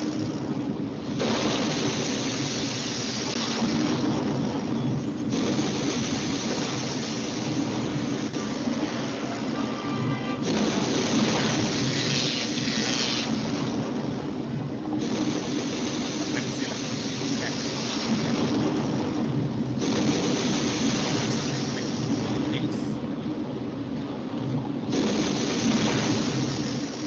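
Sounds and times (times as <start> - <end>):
storm rumble and hiss: 0.0 - 27.0.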